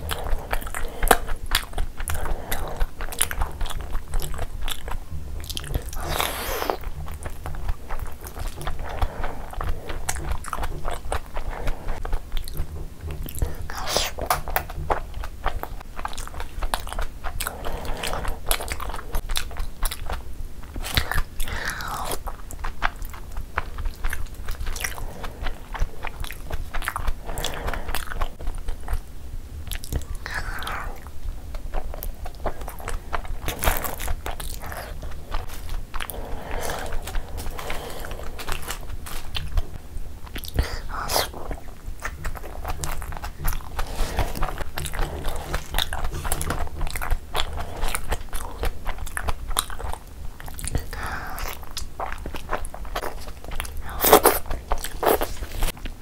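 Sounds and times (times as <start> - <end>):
biting and chewing: 0.0 - 56.0.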